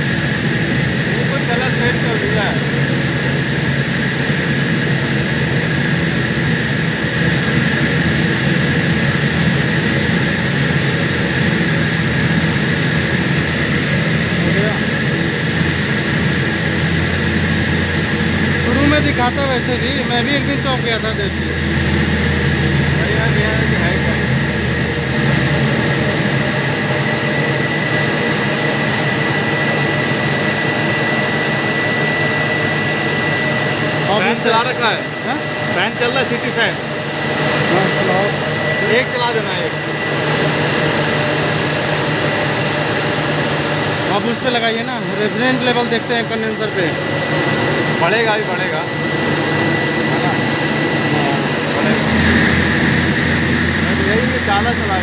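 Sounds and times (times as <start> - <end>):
chiller compressor running: 0.0 - 55.0.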